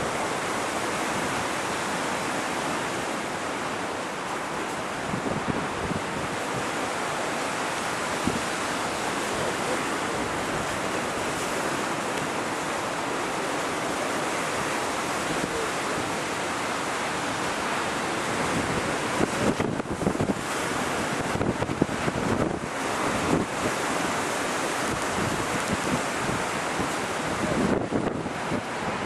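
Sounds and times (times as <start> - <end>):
choppy sea waves: 0.0 - 29.0
wind rushing over microphone: 0.0 - 29.0.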